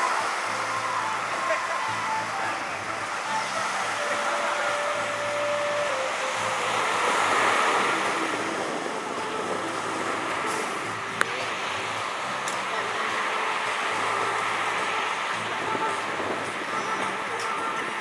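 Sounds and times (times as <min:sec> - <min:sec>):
gentle surf: 0:00.0 - 0:18.0
wind on microphone: 0:00.0 - 0:18.0.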